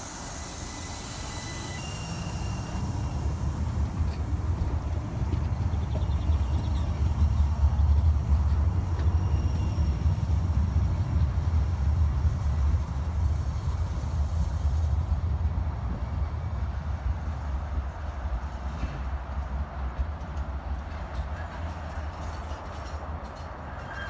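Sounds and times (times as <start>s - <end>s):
tram rumbling along track: 0.0s - 24.0s.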